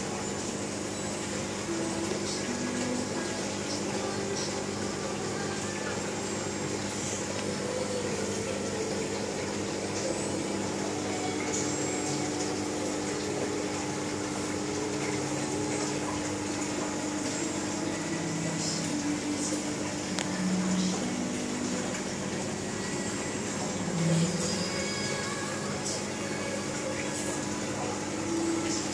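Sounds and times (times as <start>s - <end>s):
bubbling water rushing: 0.0s - 28.9s
faint pump hum: 0.0s - 28.9s.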